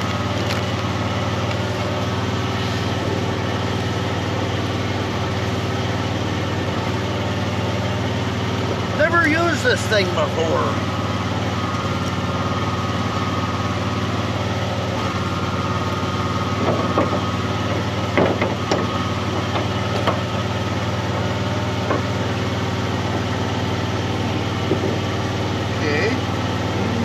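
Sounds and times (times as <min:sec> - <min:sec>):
welder engine humming: 0:00.0 - 0:27.0.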